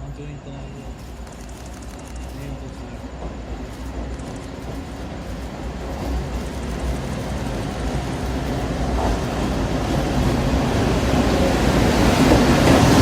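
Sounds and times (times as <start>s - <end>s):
train rumbling into station: 0.0s - 13.0s.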